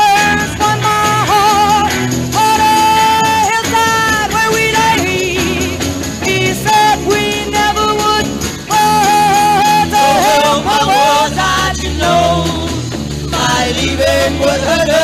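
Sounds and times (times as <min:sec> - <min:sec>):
folk-rock band playing: 0:00.0 - 0:15.0.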